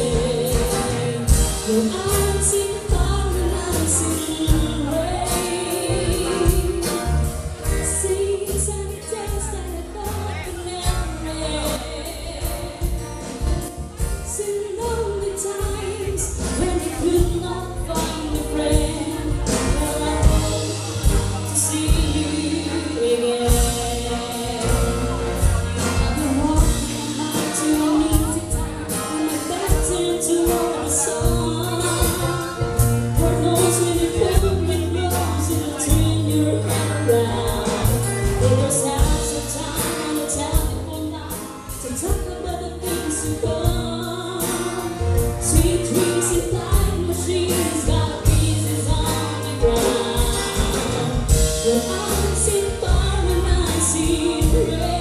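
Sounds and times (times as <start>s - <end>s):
bass: 0.0s - 55.0s
drums: 0.0s - 55.0s
person singing: 0.0s - 55.0s.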